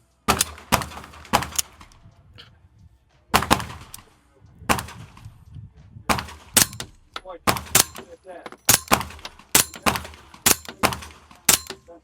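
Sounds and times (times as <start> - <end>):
suppressed gunshots: 0.3 - 2.2, 3.3 - 5.4, 6.1 - 11.8.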